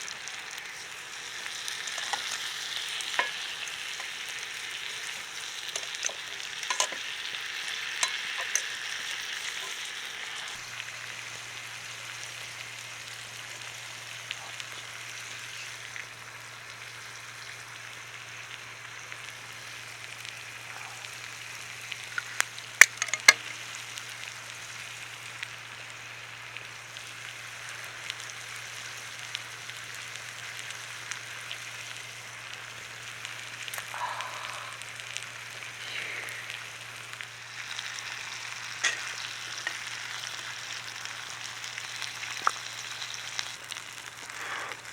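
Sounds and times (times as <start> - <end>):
fire crackling pops: 0.0 - 44.9
meat sizzling: 0.0 - 44.9.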